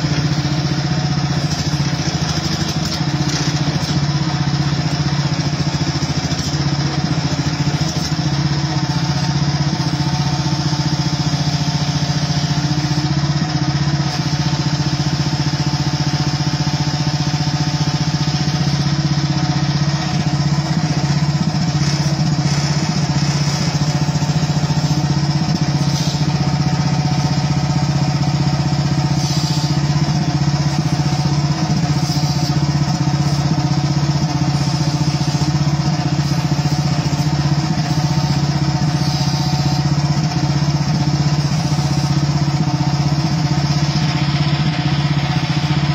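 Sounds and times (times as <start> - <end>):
excavator engine running: 0.0 - 45.9.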